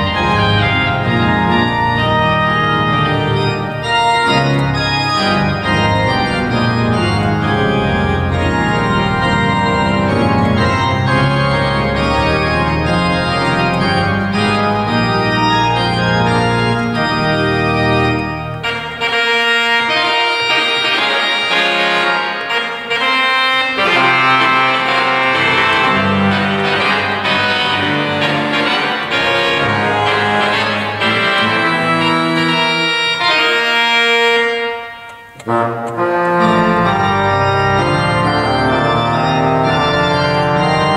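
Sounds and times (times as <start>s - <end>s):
pipe organ playing: 0.0s - 40.9s.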